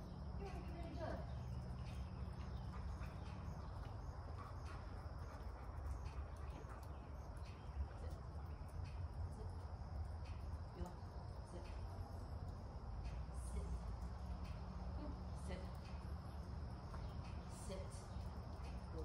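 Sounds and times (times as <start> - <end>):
faint high-pitched hum: 0.0 - 19.0
soft ticks: 1.4 - 19.0.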